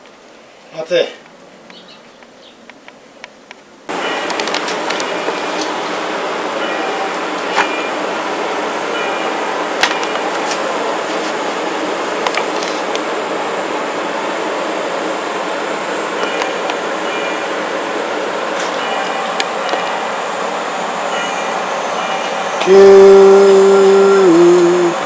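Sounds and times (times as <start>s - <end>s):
steady rushing noise: 2.8s - 25.0s.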